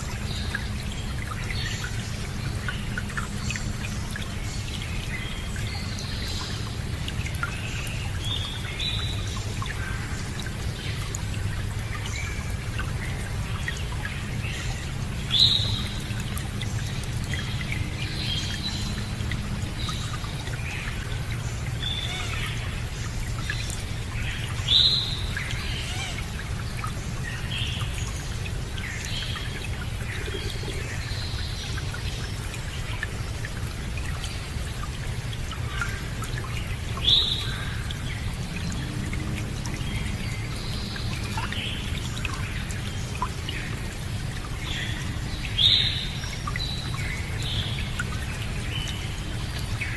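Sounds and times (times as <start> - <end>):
water running like stream: 0.0 - 49.9.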